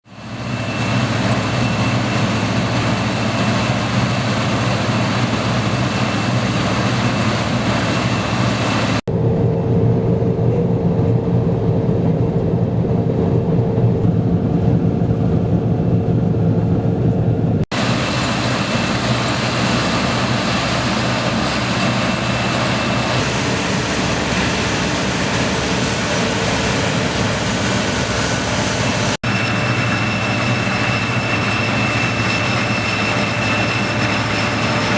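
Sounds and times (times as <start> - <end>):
combine harvester drone and whine: 0.0 - 34.9.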